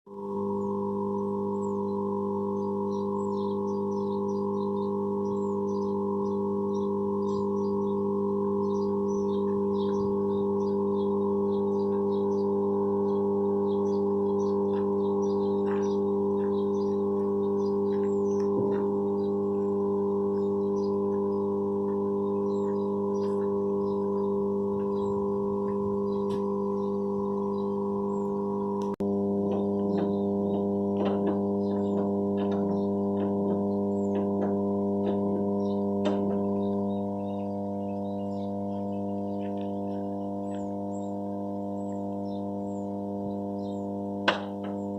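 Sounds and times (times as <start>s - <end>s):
transformer humming: 0.1s - 44.9s
faint high chirps: 0.2s - 44.9s.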